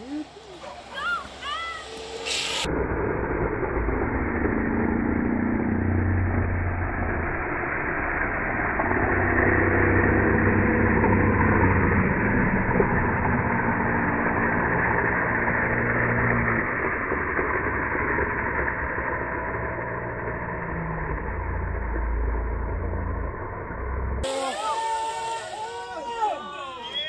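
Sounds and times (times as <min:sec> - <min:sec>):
low hum: 0:00.0 - 0:27.0
longboard wheels rolling on asphalt: 0:00.2 - 0:24.2.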